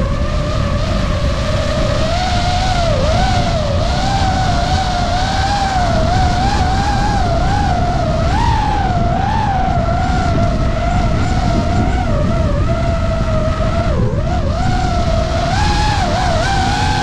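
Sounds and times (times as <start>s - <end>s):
drone motors whining: 0.0s - 17.0s
heavy wind rush: 0.0s - 17.0s.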